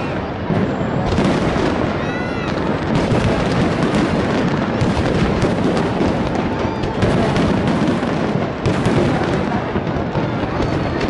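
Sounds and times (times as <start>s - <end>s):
fireworks booms: 0.0s - 11.0s
fireworks crackling pops: 0.0s - 11.0s.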